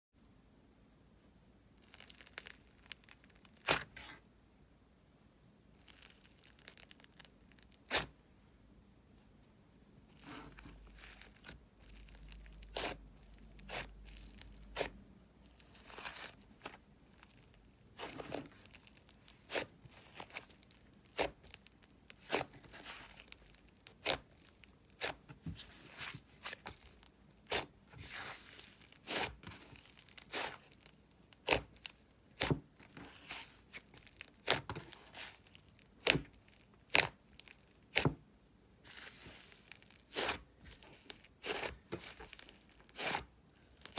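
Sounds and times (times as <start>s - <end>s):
slime crackling and popping: 1.8s - 3.9s, 5.8s - 8.1s, 11.0s - 25.2s, 25.9s - 38.1s, 38.9s - 43.9s.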